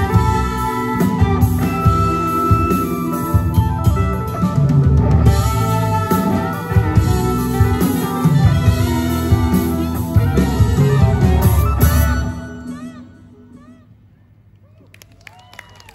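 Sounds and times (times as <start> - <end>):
live rock band playing: 0.0 - 13.6.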